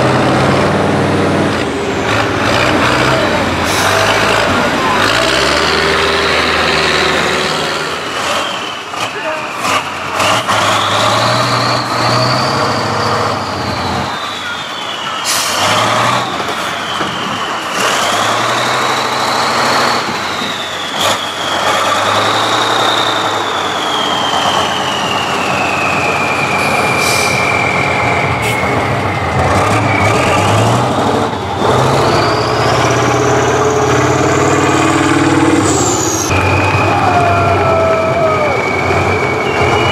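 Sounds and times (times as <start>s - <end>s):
tractor engine working hard: 0.0s - 39.9s.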